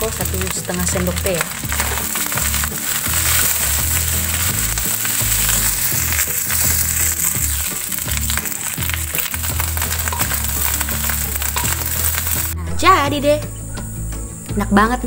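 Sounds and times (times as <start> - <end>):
rice sizzling in a wok: 0.0 - 12.6.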